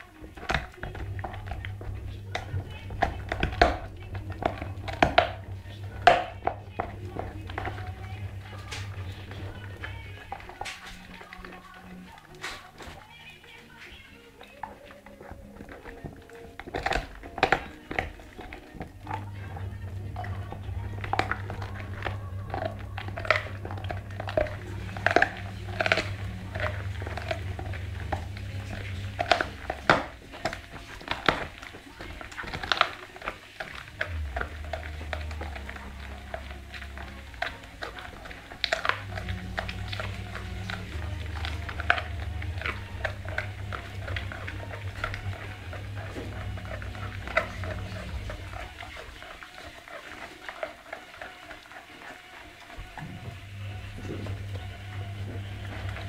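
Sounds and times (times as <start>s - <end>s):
dog crunching a bone: 0.0s - 56.0s.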